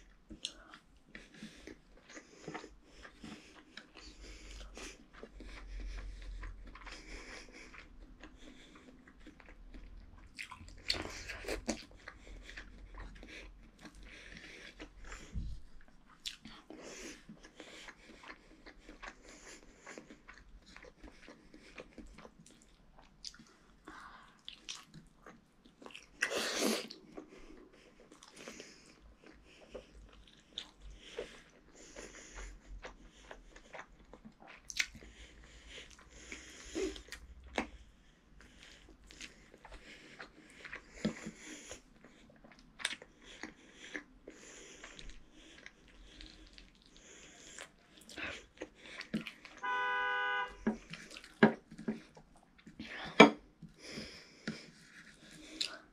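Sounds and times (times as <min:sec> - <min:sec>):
wet chewing and lip smacks: 0:00.0 - 0:49.7, 0:50.6 - 0:55.9.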